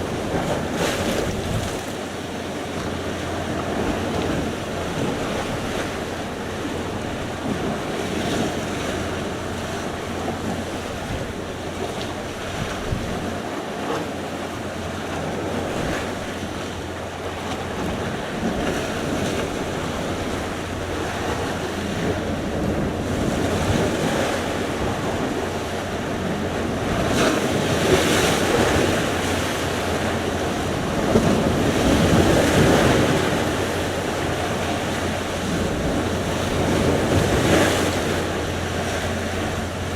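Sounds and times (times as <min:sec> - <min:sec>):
sea waves washing in: 0:00.0 - 0:39.9
wind buffeting microphone: 0:00.0 - 0:39.9.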